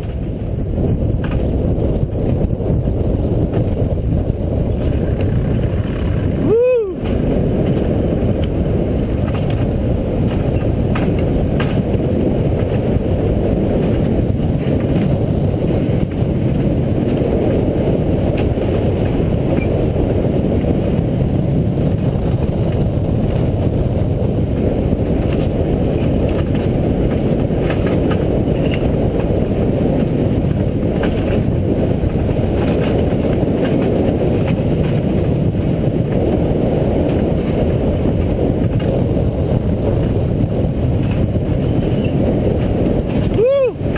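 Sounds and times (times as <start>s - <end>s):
sled wheels rumbling on rails: 0.0s - 43.9s.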